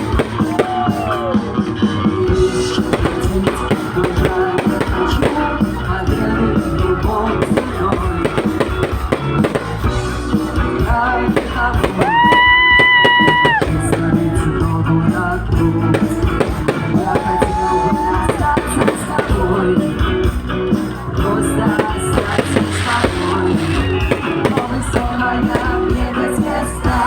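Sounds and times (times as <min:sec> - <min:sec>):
drums: 0:00.0 - 0:27.0
guitar: 0:00.0 - 0:27.0
person singing: 0:02.1 - 0:27.0.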